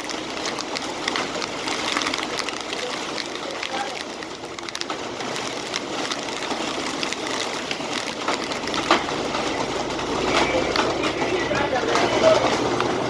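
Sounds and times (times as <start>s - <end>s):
rain and wet road hiss: 0.0s - 12.8s
irregular ticks: 0.0s - 13.0s.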